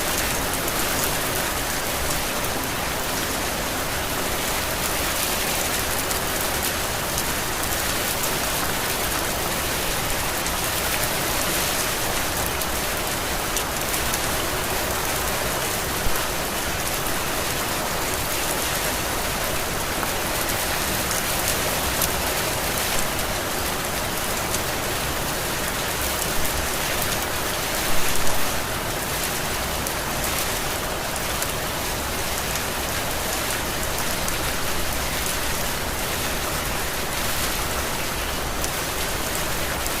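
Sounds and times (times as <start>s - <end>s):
heavy rain: 0.0s - 40.0s.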